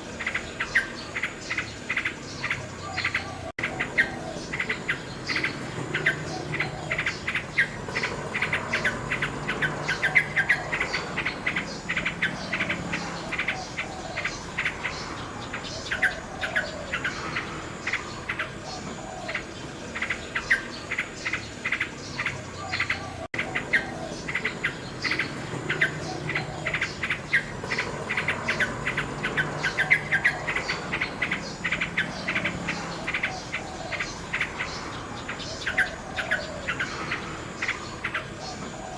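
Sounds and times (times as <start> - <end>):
nightingale singing: 0.0 - 38.9.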